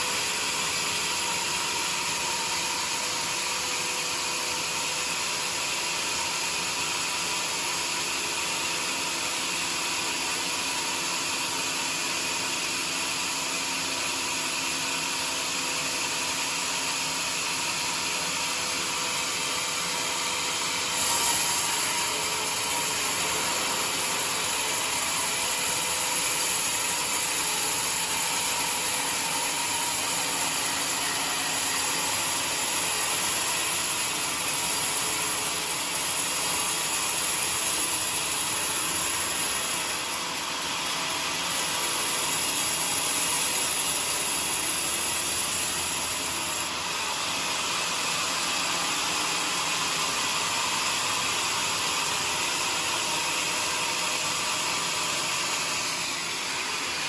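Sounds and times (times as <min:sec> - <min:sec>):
sawmill running: 0:00.0 - 0:57.0.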